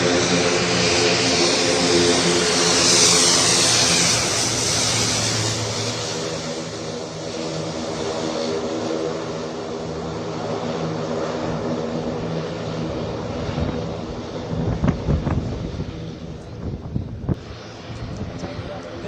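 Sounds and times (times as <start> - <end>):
turboprop aircraft droning: 0.0 - 19.0.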